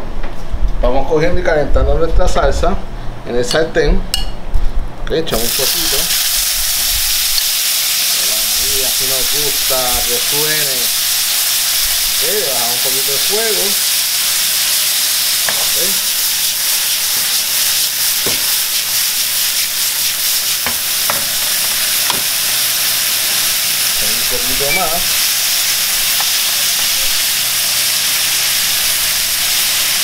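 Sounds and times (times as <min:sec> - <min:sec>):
sauce sizzling in a frying pan: 0:05.4 - 0:30.0.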